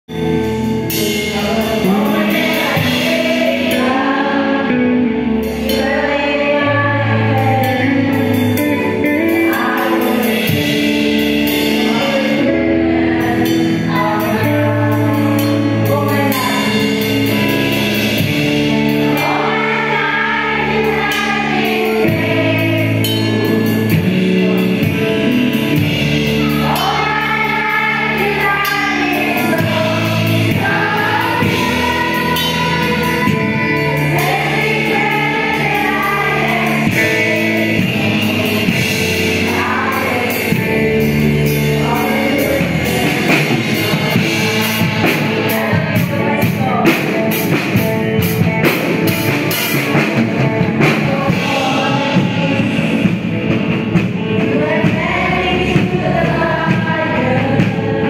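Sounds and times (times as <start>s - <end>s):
instrumental backing with bass: 0.0s - 58.0s
choir singing worship song: 0.1s - 58.0s.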